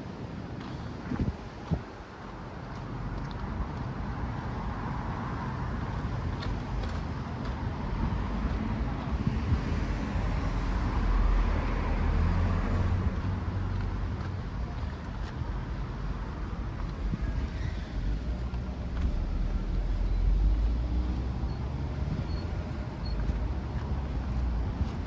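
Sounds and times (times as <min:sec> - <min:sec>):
vehicle engine rumbling: 0:00.6 - 0:25.0.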